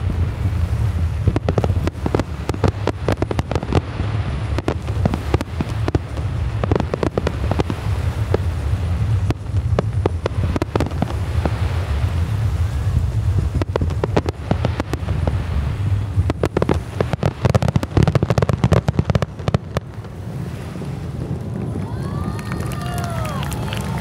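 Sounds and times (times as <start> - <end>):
fireworks bangs and crackles: 0.0 - 24.0
steady low rumble: 0.0 - 24.0.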